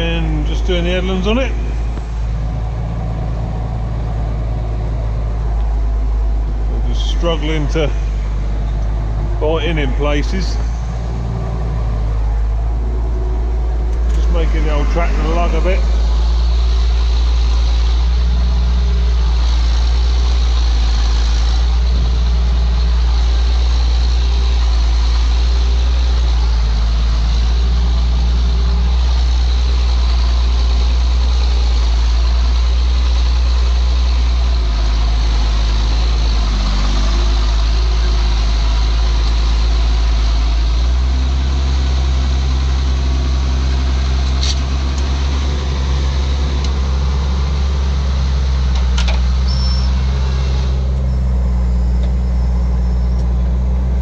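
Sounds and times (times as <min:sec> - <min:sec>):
tractor diesel engine lugging: 0:00.0 - 0:54.0.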